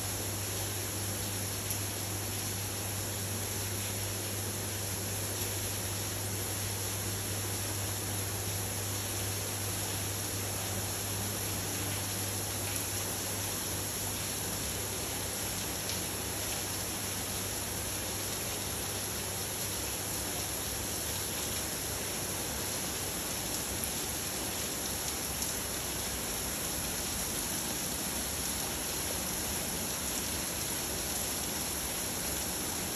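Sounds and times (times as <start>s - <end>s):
rain falling steadily: 0.0s - 32.9s.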